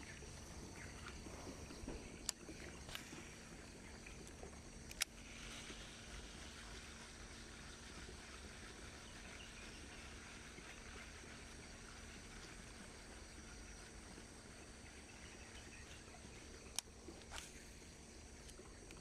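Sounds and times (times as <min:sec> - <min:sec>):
insect chirring: 0:00.0 - 0:07.5, 0:09.0 - 0:19.0
soft steady hiss: 0:00.0 - 0:19.0.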